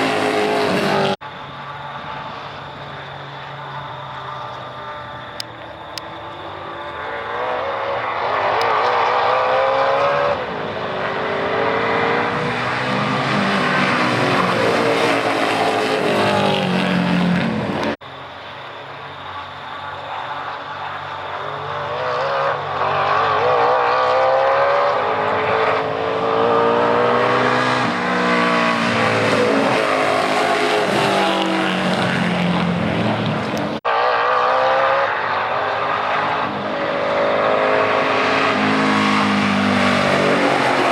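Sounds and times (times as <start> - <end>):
race car engine accelerating: 0.0 - 1.2, 2.3 - 18.0, 21.5 - 40.9.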